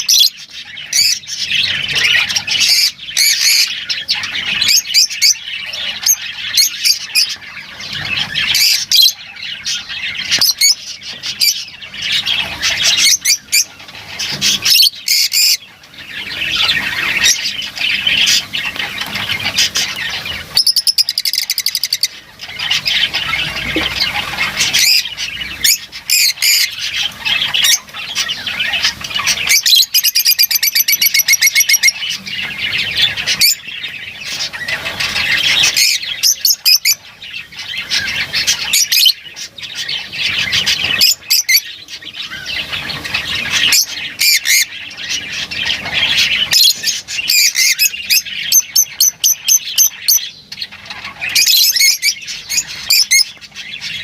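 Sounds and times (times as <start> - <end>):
lovebirds chattering: 0.0 - 54.0
shrill squawks and chirps: 0.0 - 54.0.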